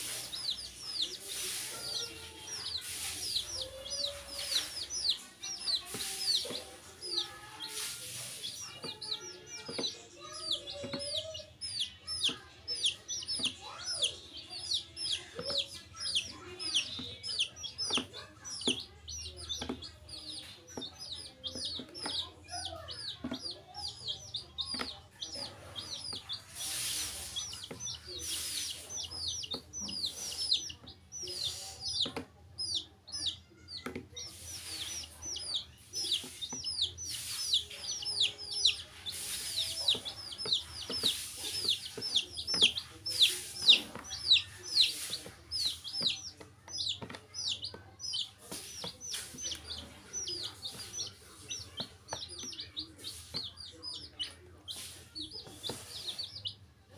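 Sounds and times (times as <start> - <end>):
baby chicks peeping: 0.0 - 56.9.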